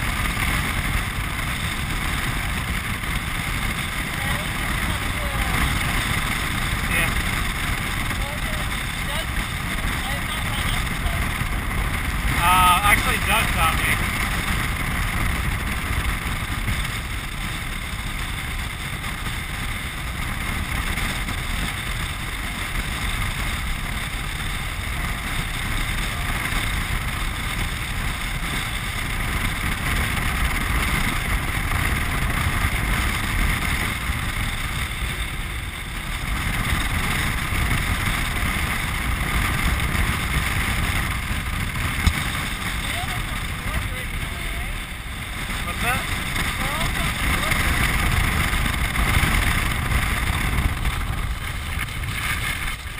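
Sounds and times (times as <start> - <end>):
wheels rumbling on lake bed: 0.0 - 52.9
wind rushing over microphone: 0.0 - 52.9.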